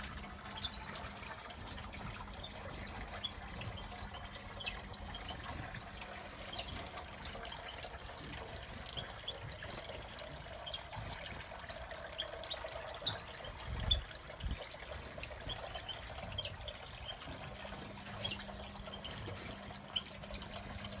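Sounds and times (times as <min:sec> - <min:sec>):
fountain water trickling: 0:00.0 - 0:21.0
small birds chirping: 0:00.0 - 0:21.0.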